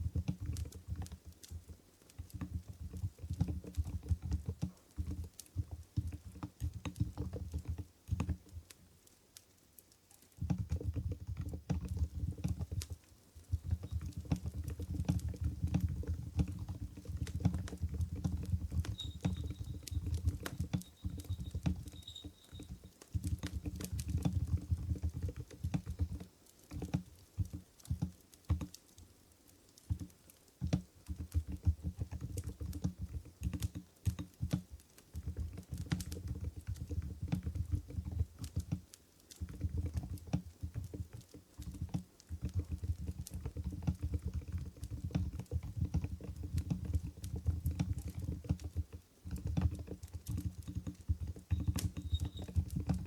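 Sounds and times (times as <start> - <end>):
soft keyboard typing: 0.0 - 8.7, 9.8 - 53.0.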